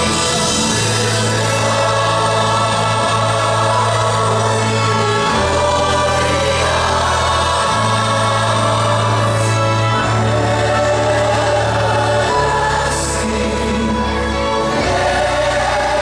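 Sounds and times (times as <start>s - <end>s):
choir singing: 0.0s - 16.0s
orchestral accompaniment: 0.0s - 16.0s.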